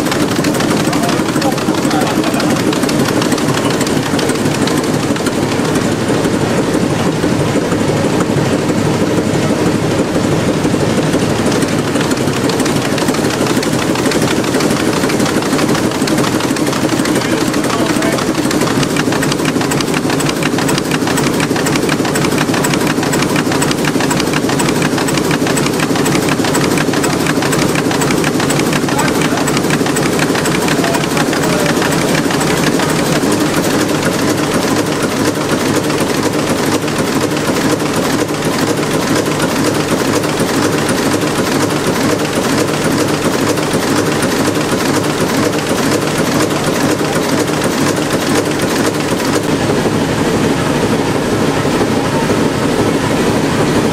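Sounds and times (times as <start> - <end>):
valve gear clatter: 0.0 - 6.4, 11.2 - 49.6
large engine running: 0.0 - 53.9.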